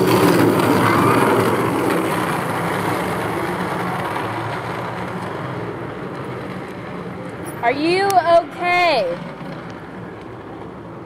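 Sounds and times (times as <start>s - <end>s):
road noise: 0.0s - 11.0s
vehicle engine hum: 0.0s - 11.0s.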